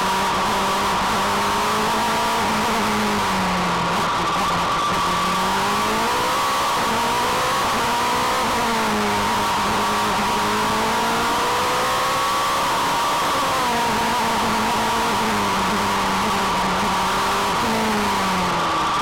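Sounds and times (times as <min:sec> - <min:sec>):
race car engine accelerating: 0:00.0 - 0:19.0
wind and road noise: 0:00.0 - 0:19.0.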